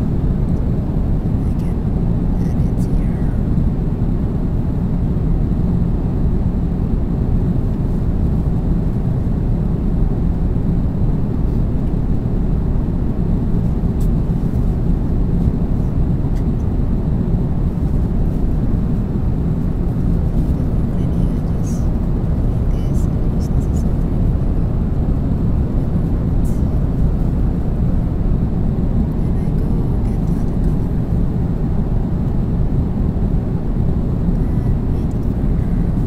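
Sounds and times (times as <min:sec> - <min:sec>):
airplane cabin engine rumble: 0:00.0 - 0:36.0.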